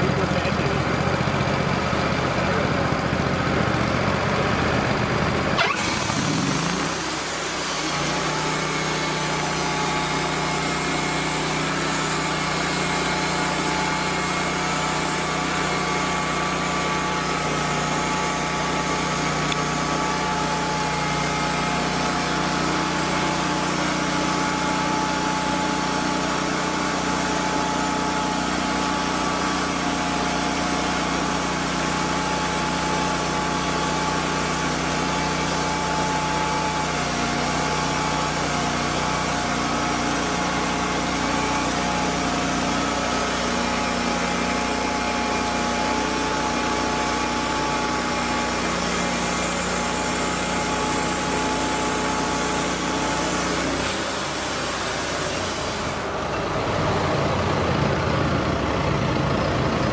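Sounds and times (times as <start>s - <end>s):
sawmill engine and blade drone: 0.0s - 59.9s.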